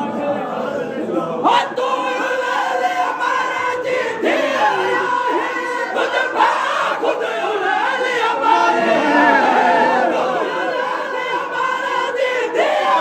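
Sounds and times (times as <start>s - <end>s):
crowd of men chanting: 0.0s - 13.0s.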